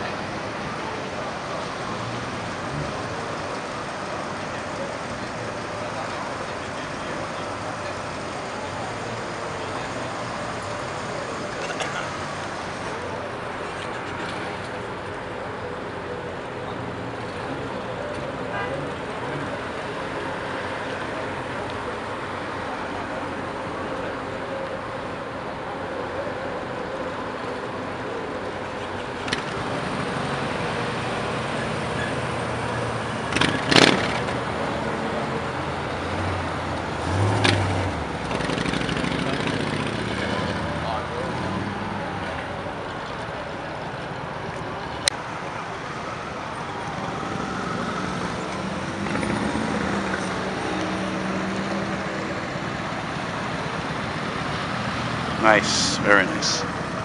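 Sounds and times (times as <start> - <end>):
cars driving past: 0.0 - 57.0.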